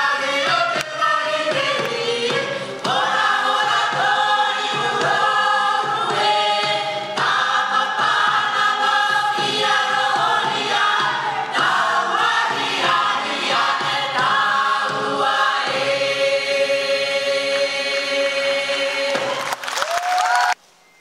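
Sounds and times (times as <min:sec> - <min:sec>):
choir singing held chords: 0:00.0 - 0:19.5.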